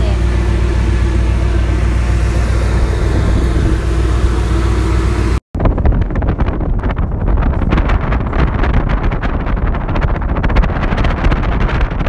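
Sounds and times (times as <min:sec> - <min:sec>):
boat engine droning: 0:00.0 - 0:12.0
wind buffeting microphone: 0:00.0 - 0:12.0.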